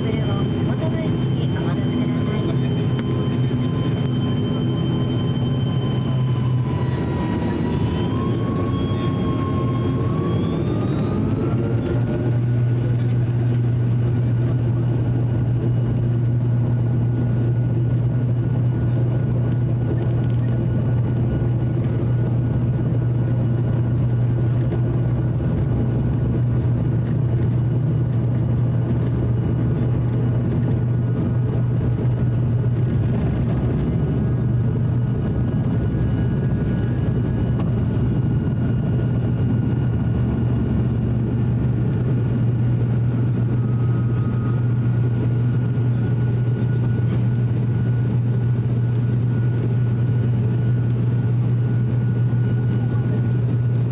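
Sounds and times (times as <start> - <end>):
turboprop engine drone and whine: 0.0 - 53.9.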